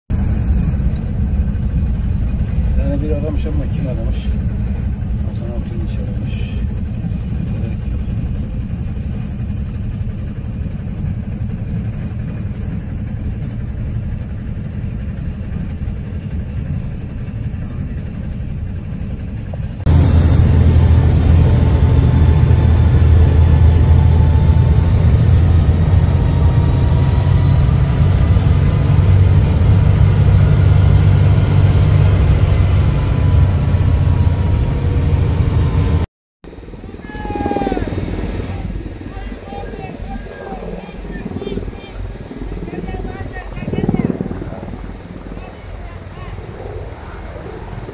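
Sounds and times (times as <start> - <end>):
low rumble: 0.1 - 47.9.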